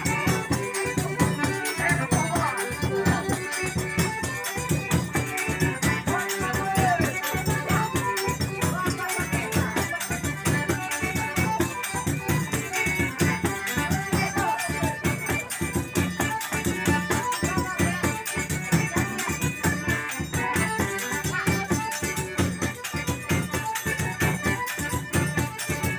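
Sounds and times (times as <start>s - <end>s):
forro music with drum and percussion: 0.0s - 25.9s.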